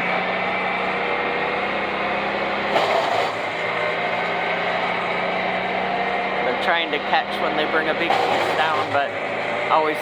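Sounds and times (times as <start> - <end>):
distant wood chipper engine: 0.0 - 10.0.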